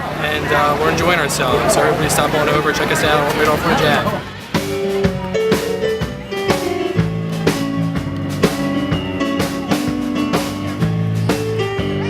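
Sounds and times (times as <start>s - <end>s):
guitar and drum music: 0.0s - 12.0s.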